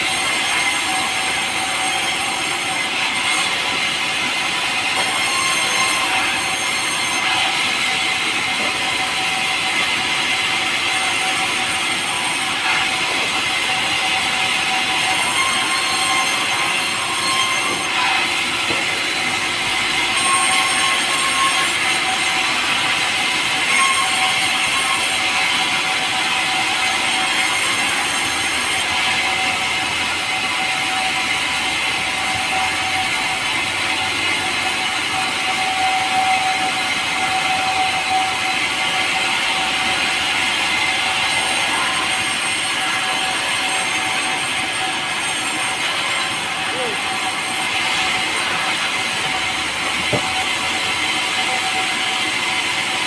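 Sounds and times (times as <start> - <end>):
power saw cutting log: 0.0 - 53.0.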